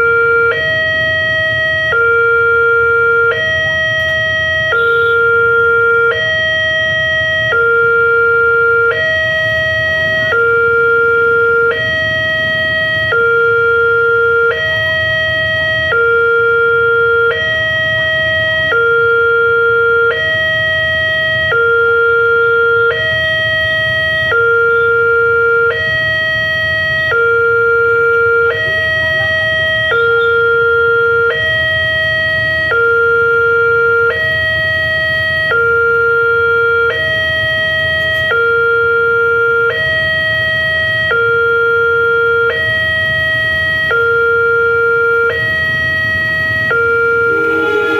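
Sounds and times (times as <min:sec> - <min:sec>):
level crossing two-tone alarm: 0:00.0 - 0:47.9.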